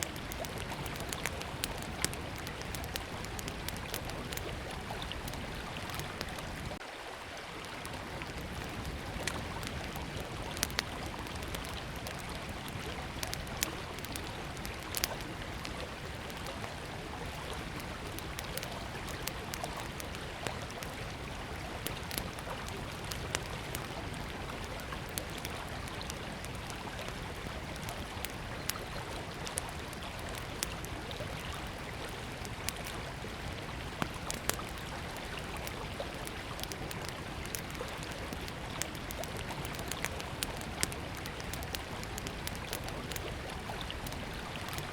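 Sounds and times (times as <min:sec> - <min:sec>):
wood fire crackling and popping: 0:00.0 - 0:06.8, 0:07.9 - 0:44.9
river flowing: 0:00.0 - 0:44.9.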